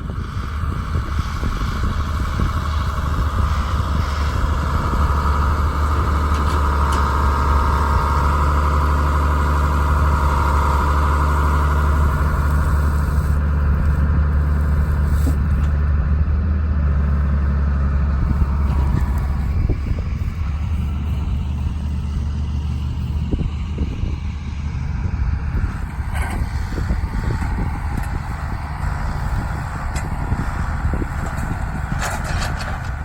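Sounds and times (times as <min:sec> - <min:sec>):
truck engine running: 0:00.0 - 0:33.0.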